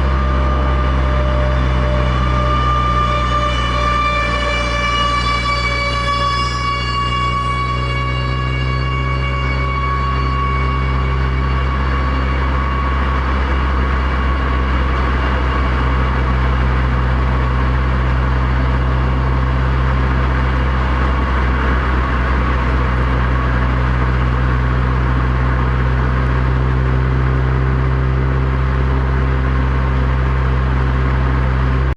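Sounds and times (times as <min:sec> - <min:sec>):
car engine running: 0:00.0 - 0:31.9
road noise: 0:00.0 - 0:31.9
warning siren tone: 0:00.0 - 0:31.9.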